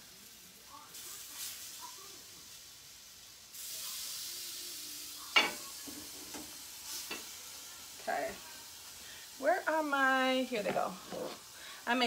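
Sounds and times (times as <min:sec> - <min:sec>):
chicken sizzling in a frying pan: 0:00.0 - 0:12.0.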